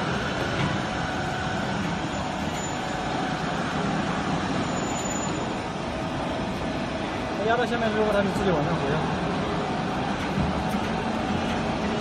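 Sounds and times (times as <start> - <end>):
hydraulic power unit running: 0.0 - 12.0.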